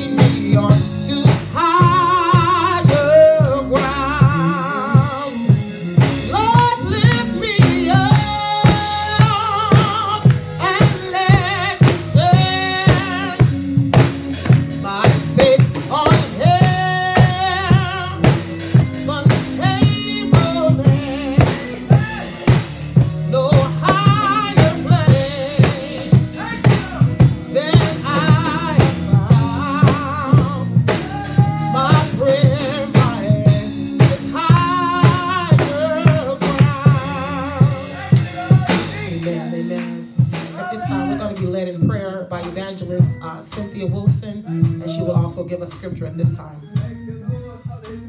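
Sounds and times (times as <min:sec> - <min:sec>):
drum kit beat: 0:00.0 - 0:48.0
person singing gospel: 0:00.0 - 0:48.0.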